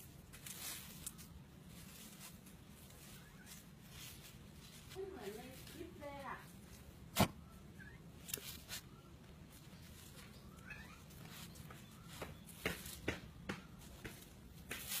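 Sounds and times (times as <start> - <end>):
rustling leaves and mulch: 0.0 - 15.0.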